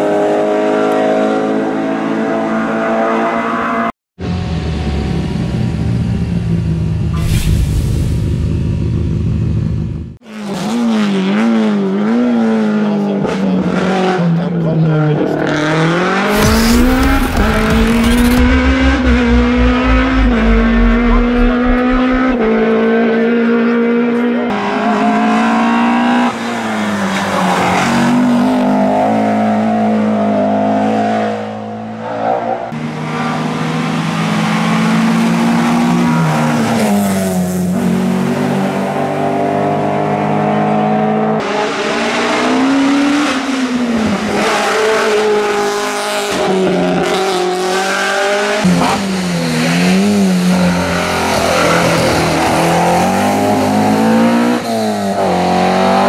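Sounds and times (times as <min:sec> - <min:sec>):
race car engines revving hard: 0:10.3 - 0:56.0.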